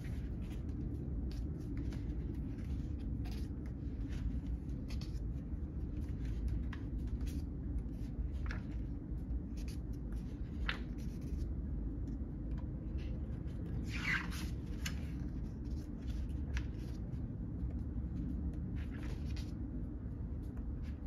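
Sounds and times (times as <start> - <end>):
pages being turned: 0.0 - 19.7
steady low hum: 0.0 - 21.0.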